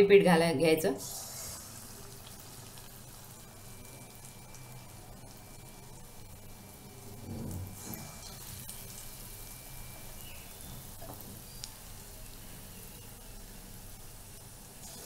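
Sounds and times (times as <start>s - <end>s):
batter sizzling in hot oil: 1.0s - 15.0s.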